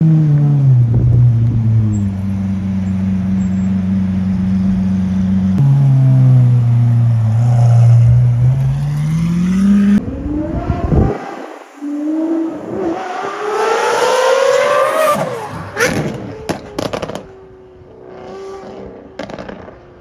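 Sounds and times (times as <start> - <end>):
loud car engine revving: 0.0 - 17.3.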